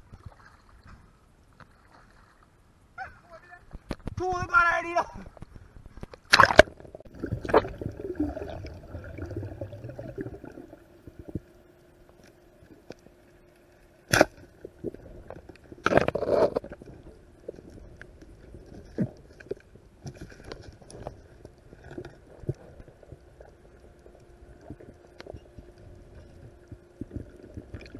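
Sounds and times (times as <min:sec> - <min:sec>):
underwater rumble of water: 0:05.2 - 0:27.9.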